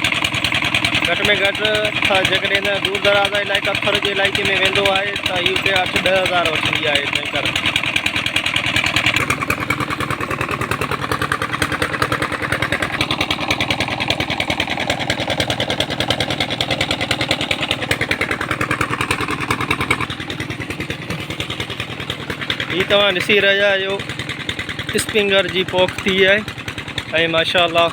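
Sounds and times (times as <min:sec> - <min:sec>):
vehicle engine running: 0:00.0 - 0:27.9.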